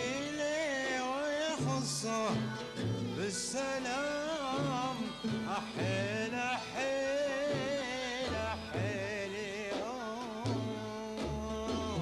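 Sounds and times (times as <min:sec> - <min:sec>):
man singing: 0:00.0 - 0:12.0
oud: 0:00.0 - 0:12.0
string ensemble: 0:00.0 - 0:12.0.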